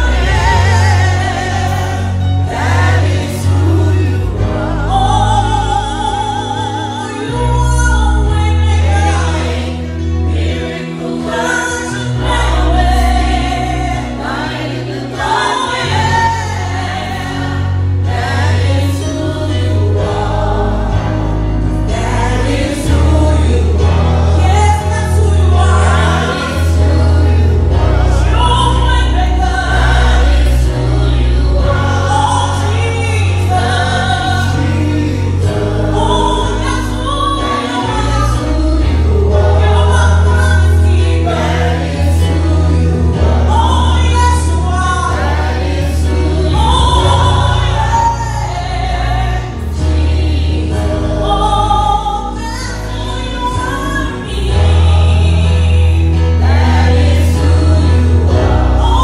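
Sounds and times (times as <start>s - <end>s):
woman singing gospel song: 0.0s - 10.0s, 10.8s - 18.0s, 21.9s - 56.2s
backing vocalists: 0.0s - 59.0s
band playing: 0.0s - 59.0s.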